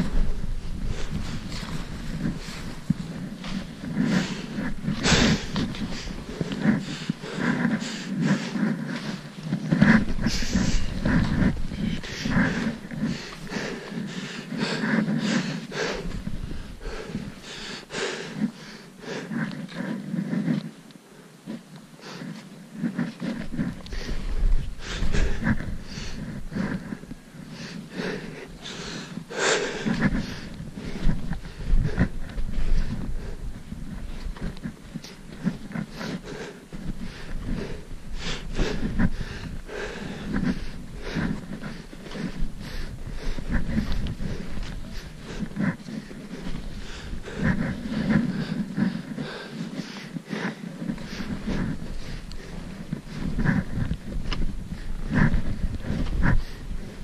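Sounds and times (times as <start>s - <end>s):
footsteps crunching through snow: 0.0s - 20.8s, 21.4s - 57.0s
heavy breathing: 0.0s - 57.0s.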